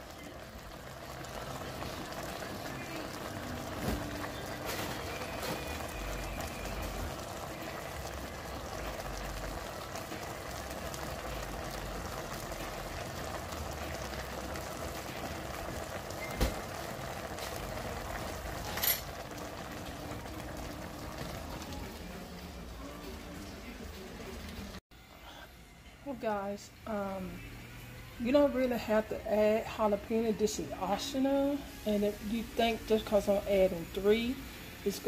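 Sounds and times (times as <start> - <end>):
pot simmering and bubbling: 0.0 - 26.0, 26.6 - 35.0.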